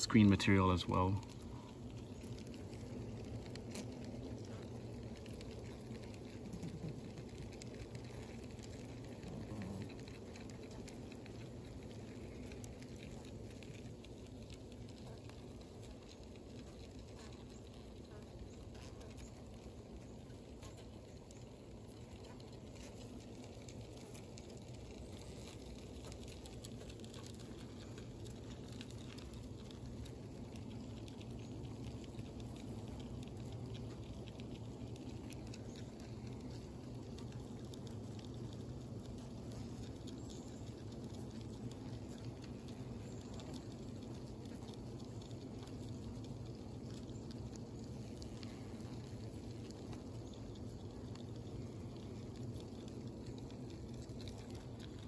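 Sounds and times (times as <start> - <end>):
tiny scattered ticks: 0.0 - 55.0.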